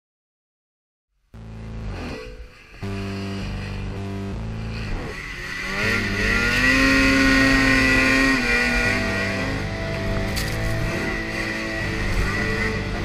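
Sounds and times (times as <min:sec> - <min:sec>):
snowmobile engine revving: 0:01.4 - 0:13.0.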